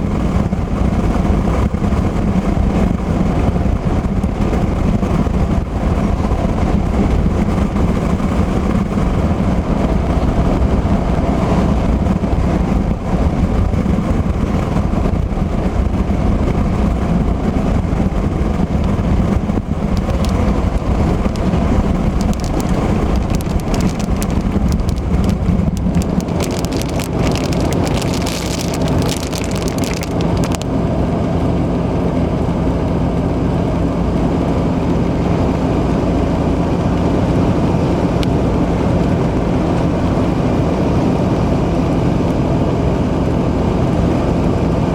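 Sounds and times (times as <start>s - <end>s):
car road noise: 0.0s - 44.9s
rain hitting car: 0.0s - 44.9s.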